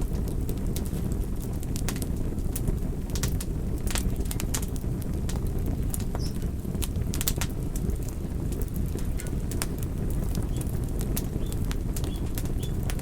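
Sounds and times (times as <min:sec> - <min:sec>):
low rumble of burning: 0:00.0 - 0:13.0
wood fire crackling and popping: 0:00.0 - 0:13.0.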